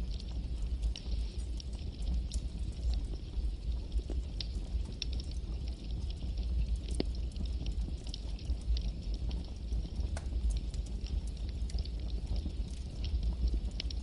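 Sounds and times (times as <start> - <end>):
burning wood crackling and popping: 0.0 - 14.0
campfire flames rumbling: 0.0 - 14.0.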